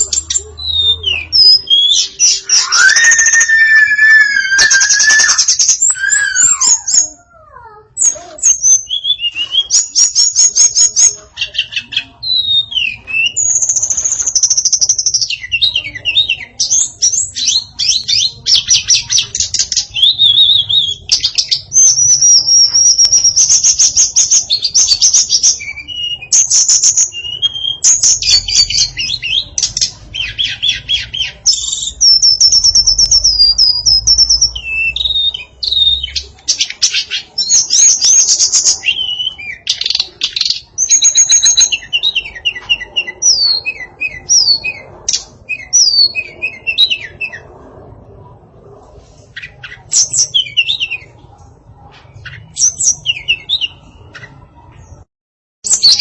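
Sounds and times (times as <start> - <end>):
bird singing whistles and trills: 0.0 - 7.4, 8.0 - 47.5, 49.4 - 51.2, 52.2 - 55.0.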